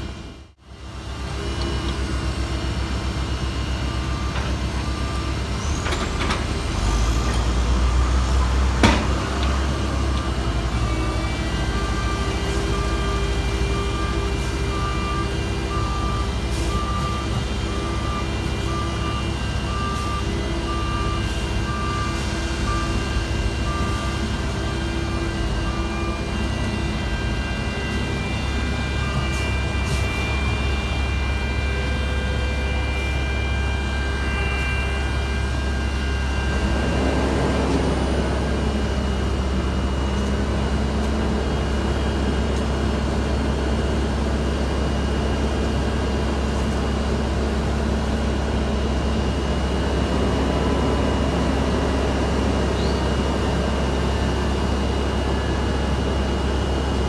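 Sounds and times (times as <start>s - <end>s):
diesel engines running: 0.0s - 57.0s
high engine whine: 0.0s - 57.0s.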